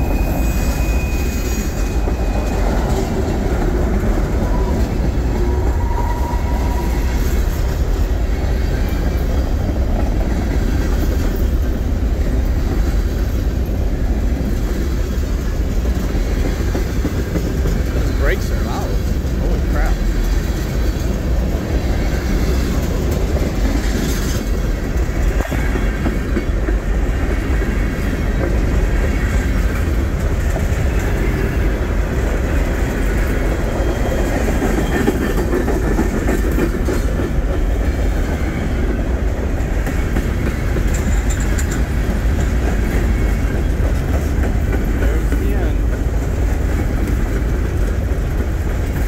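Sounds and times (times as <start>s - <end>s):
steel wheels rumbling on rails: 0.0s - 49.0s.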